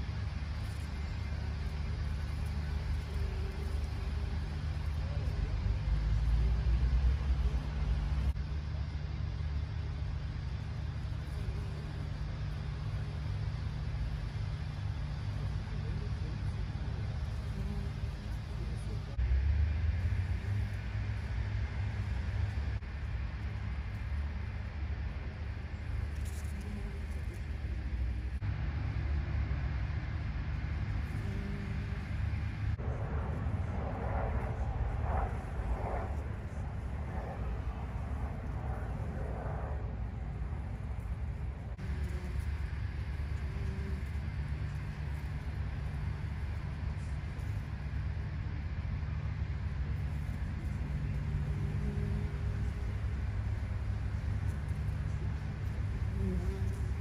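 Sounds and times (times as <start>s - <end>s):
distant road traffic rumble: 0.0s - 57.0s.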